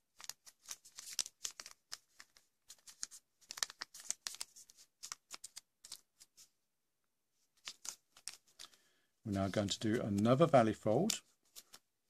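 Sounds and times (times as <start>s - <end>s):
paper crinkling and rustling: 0.0s - 6.5s, 7.6s - 11.9s.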